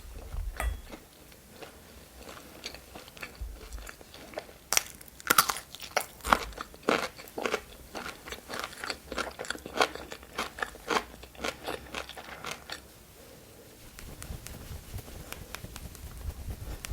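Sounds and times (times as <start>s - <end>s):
crunchy chewing of food: 0.0s - 13.6s.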